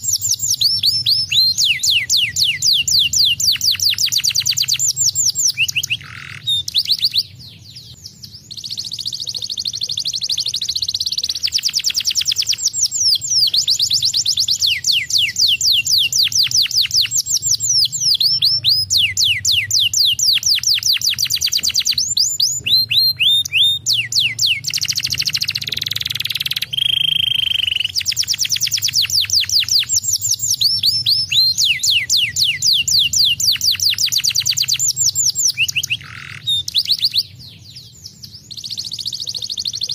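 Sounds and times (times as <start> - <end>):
canary singing trills: 0.0 - 39.9
faint low hum: 0.0 - 39.9.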